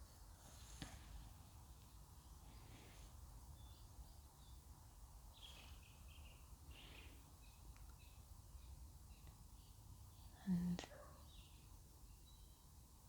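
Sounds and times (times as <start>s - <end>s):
distant birds chirping: 1.8s - 12.7s.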